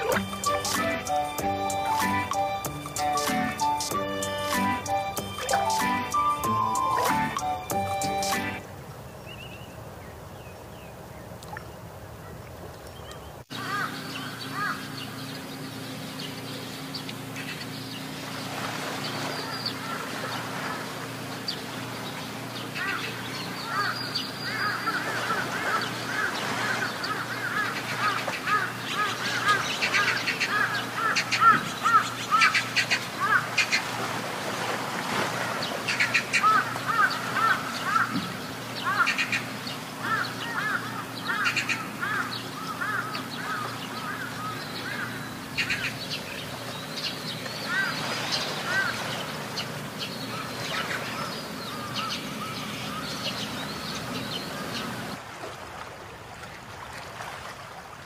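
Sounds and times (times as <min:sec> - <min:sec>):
birds calling rapid notes: 0:00.0 - 0:08.7, 0:13.0 - 0:33.9, 0:35.6 - 0:55.2
boat motor humming: 0:00.0 - 0:08.8, 0:13.5 - 0:55.2.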